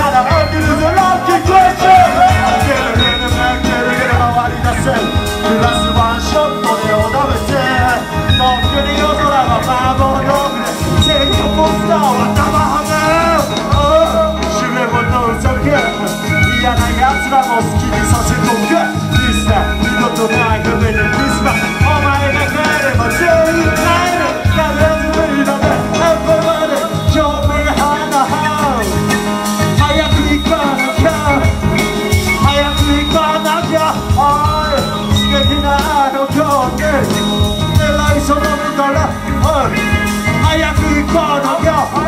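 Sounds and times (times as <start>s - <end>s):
live band upbeat groove: 0.0s - 42.0s
person rapping through pa: 0.0s - 42.0s.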